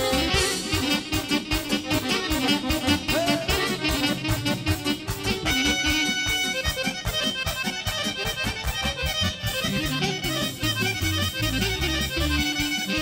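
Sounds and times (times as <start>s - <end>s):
accordions playing: 0.0s - 13.0s
saxophone playing: 0.0s - 13.0s.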